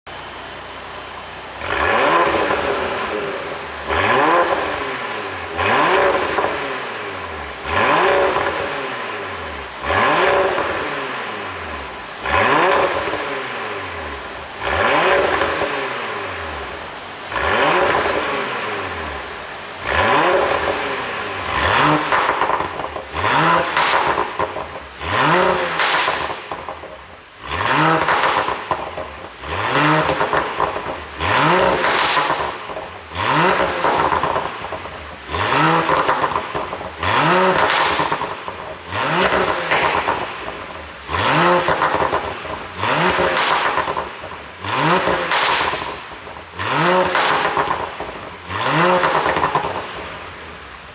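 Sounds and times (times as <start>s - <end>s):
car engine revving: 0.1s - 50.9s
exhaust crackles and pops: 1.5s - 50.9s.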